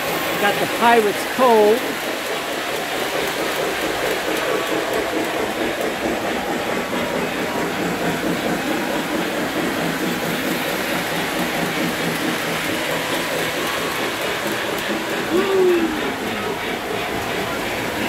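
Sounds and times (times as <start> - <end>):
model trains rumbling on track: 0.0 - 18.0.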